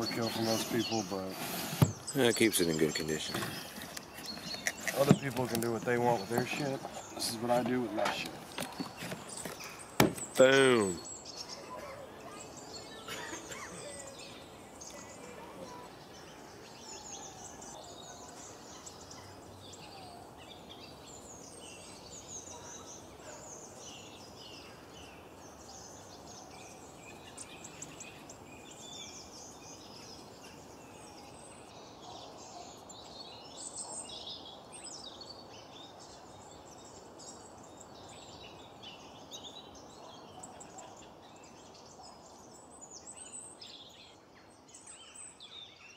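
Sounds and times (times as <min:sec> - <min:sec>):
low background noise: 0:00.0 - 0:45.9
small birds chirping: 0:00.0 - 0:45.9.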